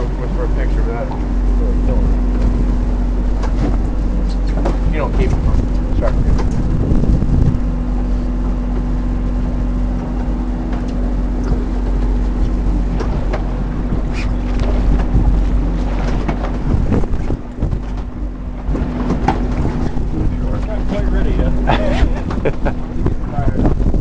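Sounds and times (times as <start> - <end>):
boat engine droning: 0.0 - 24.0
wind on microphone: 0.0 - 24.0.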